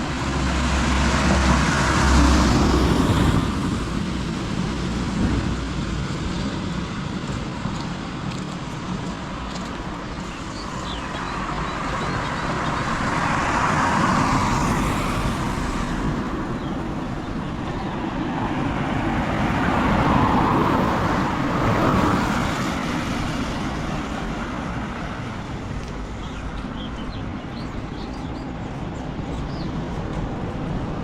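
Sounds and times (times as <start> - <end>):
vehicles passing on wet road: 0.0 - 31.0.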